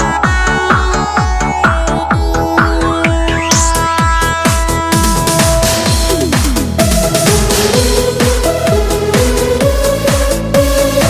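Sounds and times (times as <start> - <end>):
electronic dance music: 0.0 - 11.0
kick drum beat: 0.0 - 11.0
synth melody: 0.0 - 11.0.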